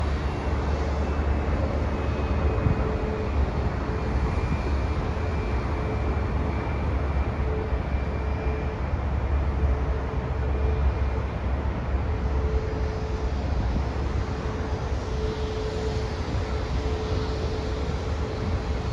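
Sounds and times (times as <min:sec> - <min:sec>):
jet engines rumbling with whine: 0:00.0 - 0:18.9.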